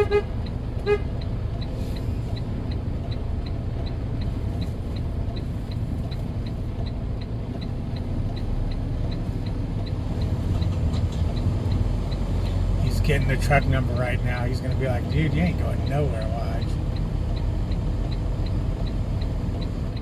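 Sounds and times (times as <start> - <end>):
diesel truck engine running: 0.0 - 20.0
light regular ticking: 0.3 - 20.0.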